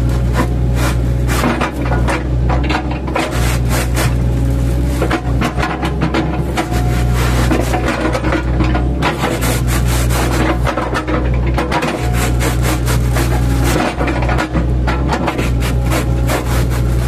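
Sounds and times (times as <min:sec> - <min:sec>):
excavator engine running: 0:00.0 - 0:17.0
wood crackling and scraping: 0:00.0 - 0:17.0.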